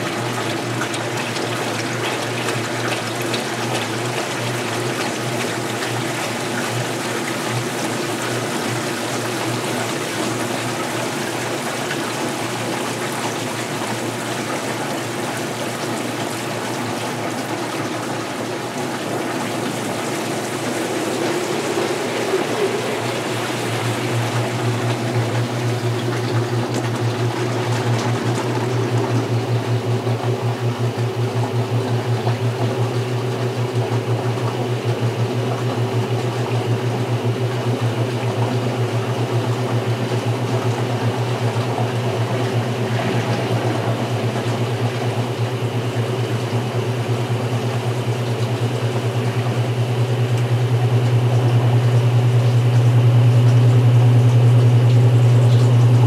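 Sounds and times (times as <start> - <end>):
washer low hum: 0.0 - 56.0
water running into washer tub: 0.0 - 56.0.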